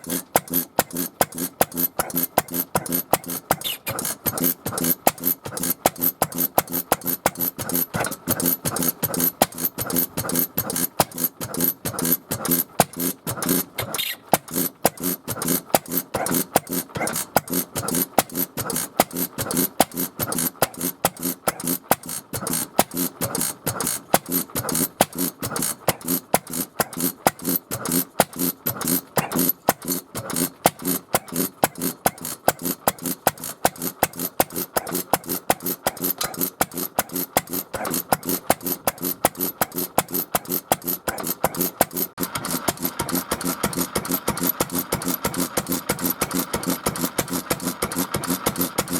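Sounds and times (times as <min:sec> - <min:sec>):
small engine popping: 0:00.0 - 0:48.9.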